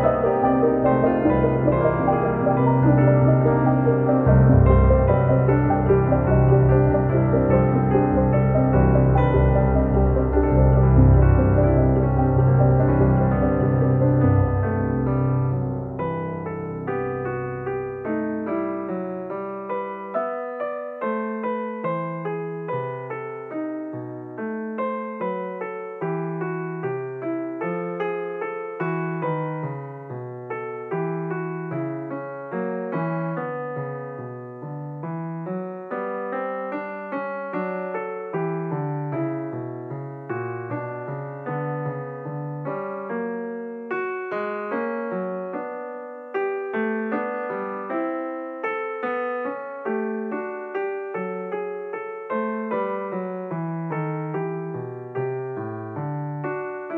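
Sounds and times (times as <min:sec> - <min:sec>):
piano music: 0:00.0 - 0:56.9.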